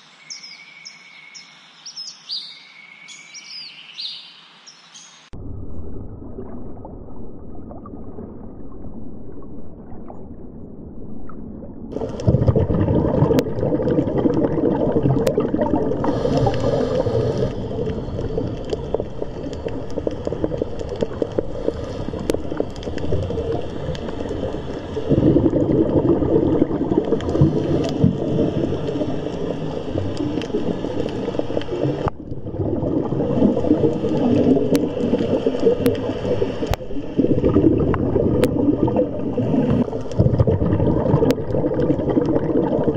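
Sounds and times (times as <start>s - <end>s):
underwater bubbling and gurgling: 5.3s - 42.9s.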